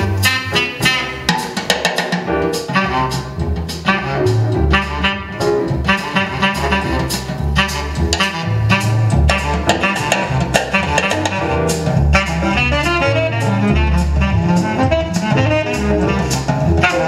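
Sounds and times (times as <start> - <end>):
saxophone: 0.0 - 1.4, 2.6 - 17.0
bass: 0.0 - 17.0
brass: 0.0 - 17.0
drum kit: 0.0 - 17.0.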